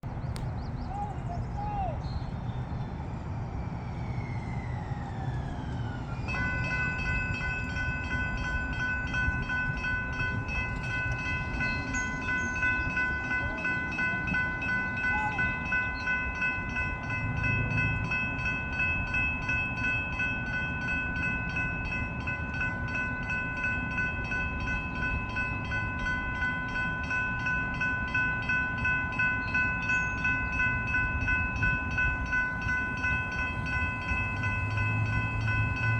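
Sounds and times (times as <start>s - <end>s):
low rumble of traffic: 0.0s - 35.9s
railroad crossing bell ringing: 6.2s - 35.9s.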